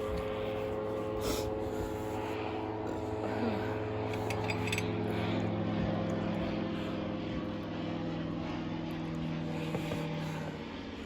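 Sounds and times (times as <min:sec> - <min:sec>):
propeller engine droning: 0:00.0 - 0:11.0.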